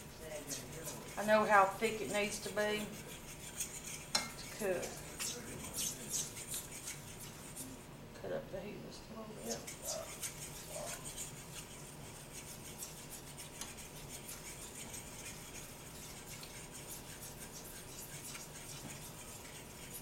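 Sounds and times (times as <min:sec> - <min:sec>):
fork scraping a skillet: 0:00.0 - 0:07.9, 0:09.4 - 0:20.0.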